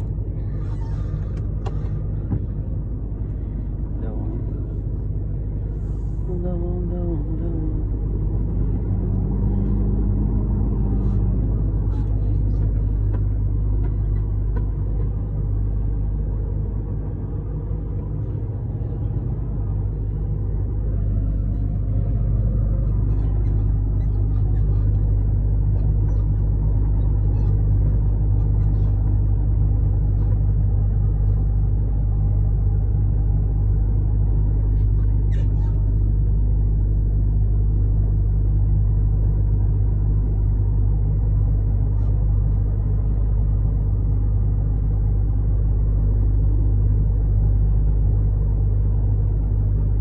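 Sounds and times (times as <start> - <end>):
truck engine rumble from cab: 0.0 - 50.0.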